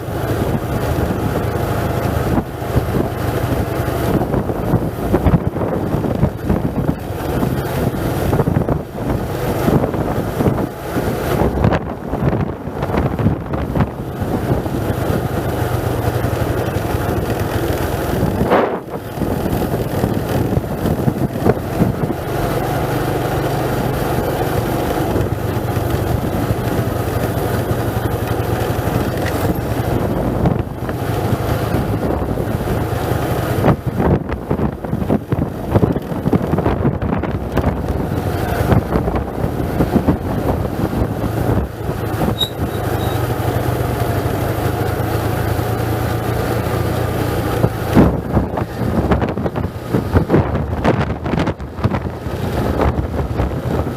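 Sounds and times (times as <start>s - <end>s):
knocks and jolts from bumpy road: 0.0s - 53.9s
vehicle engine running: 0.0s - 53.9s
wind noise on microphone: 0.0s - 53.9s.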